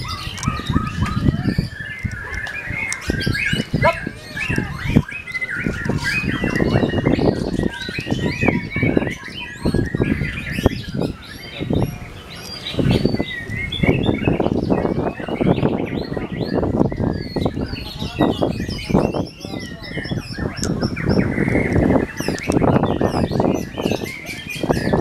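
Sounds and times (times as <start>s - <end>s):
songbird chirping and whistling: 0.0s - 25.0s.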